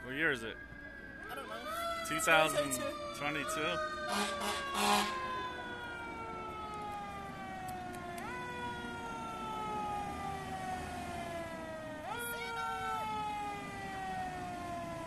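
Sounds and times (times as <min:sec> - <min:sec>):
fire truck siren wailing: 0:00.0 - 0:15.0.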